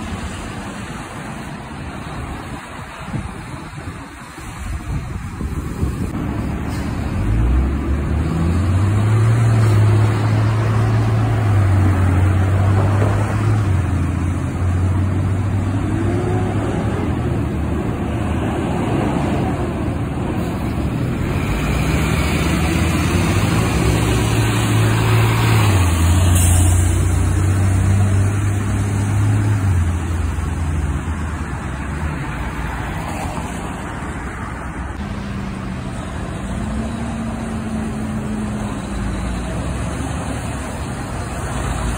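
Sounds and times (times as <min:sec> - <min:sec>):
diesel trucks pulling away: 0:00.0 - 0:32.8, 0:33.4 - 0:41.9
traffic on wet road: 0:00.0 - 0:41.9.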